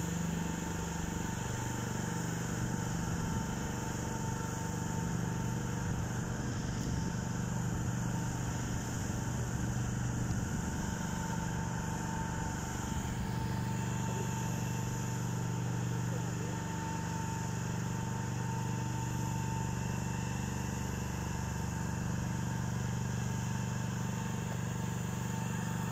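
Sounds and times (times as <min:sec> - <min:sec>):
engine droning: 0:00.0 - 0:23.4
thin steady whine: 0:00.0 - 0:25.9.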